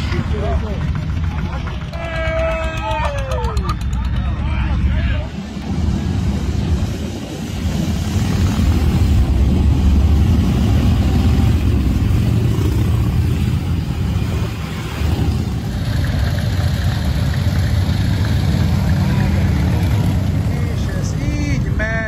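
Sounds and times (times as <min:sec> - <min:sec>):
motorcycles riding past: 0:00.0 - 0:22.0.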